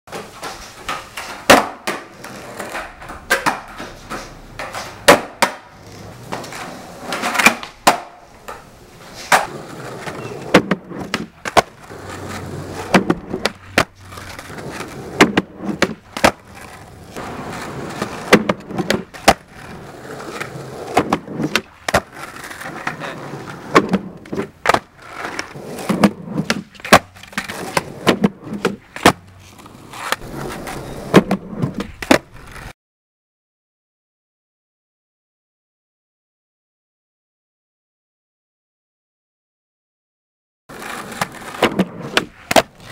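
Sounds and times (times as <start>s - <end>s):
skateboard deck landing: 0.1s - 32.7s, 40.7s - 42.9s
skateboard tail popping: 0.1s - 32.7s, 40.7s - 42.9s
skateboard wheels rolling on concrete: 0.1s - 32.8s, 40.7s - 42.9s.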